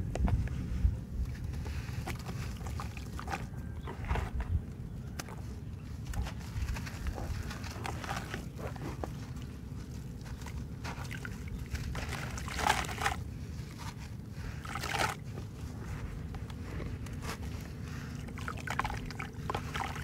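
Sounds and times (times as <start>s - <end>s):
hands crumbling wet soil: 1.2s - 20.0s.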